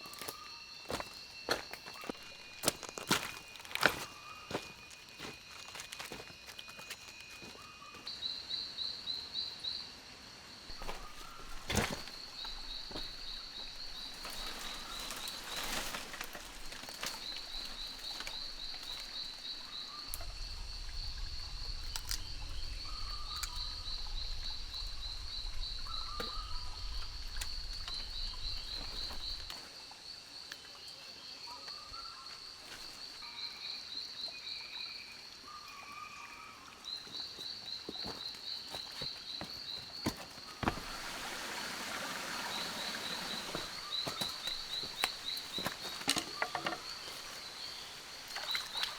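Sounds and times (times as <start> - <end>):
pulsing high insect trill: 0.0 - 30.2, 37.6 - 48.9.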